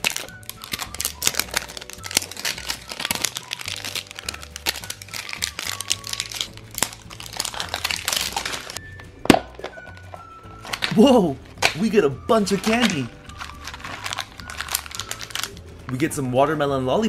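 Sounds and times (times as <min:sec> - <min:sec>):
plastic wrapping crinkling: 0:00.0 - 0:15.7
background music: 0:00.0 - 0:17.0.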